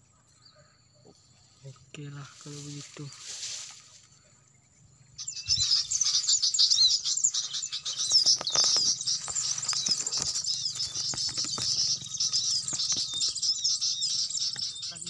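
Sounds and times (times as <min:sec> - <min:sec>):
small birds twittering: 0:00.0 - 0:15.0.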